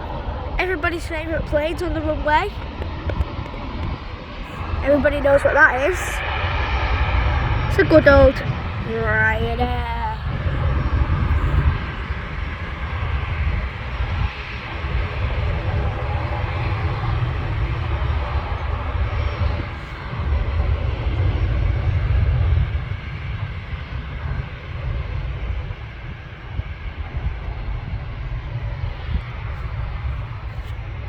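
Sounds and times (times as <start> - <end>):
distant jet engines rumbling: 0.0 - 31.0.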